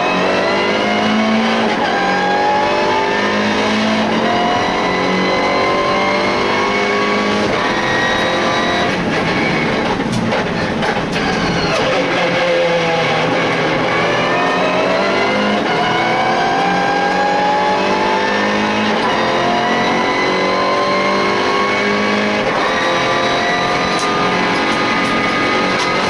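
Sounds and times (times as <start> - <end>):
race car engine accelerating: 0.0 - 26.0
road and wind noise: 0.0 - 26.0.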